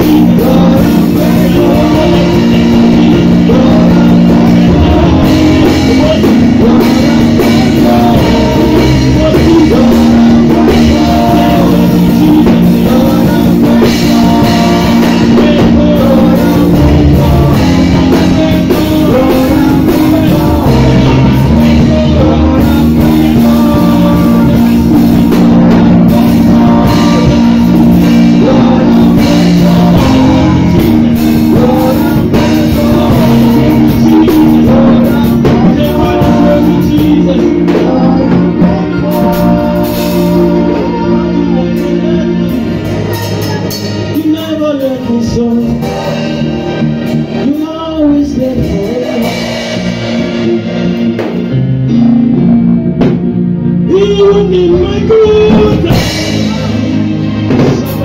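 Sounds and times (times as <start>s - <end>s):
people singing on microphones: 0.0s - 51.7s, 53.8s - 58.0s
drums: 0.0s - 58.0s
guitar: 0.0s - 58.0s.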